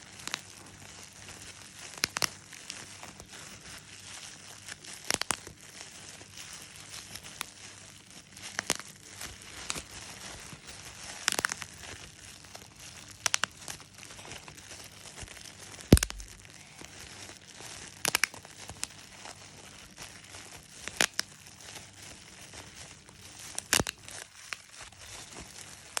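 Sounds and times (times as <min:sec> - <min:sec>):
bubble wrap crinkling: 0:00.0 - 0:26.0
bubble wrap popping: 0:00.0 - 0:26.0.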